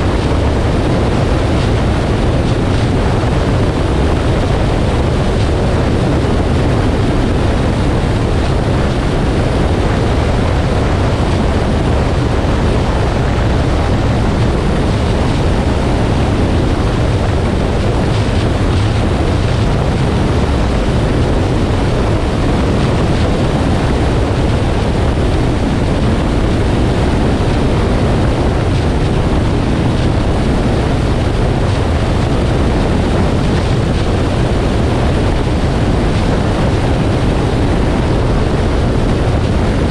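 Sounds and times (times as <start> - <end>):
heavy low rumble: 0.0 - 39.9
road and wind noise: 0.0 - 39.9.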